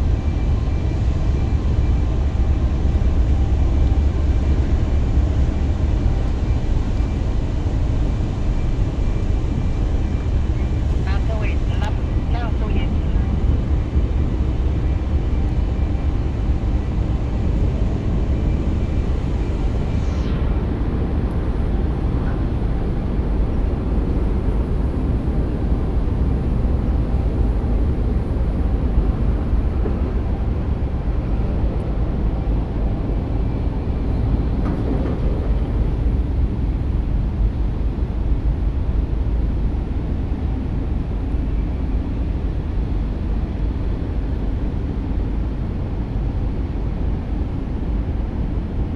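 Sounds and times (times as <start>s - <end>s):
wind blowing across microphone: 0.0s - 48.9s.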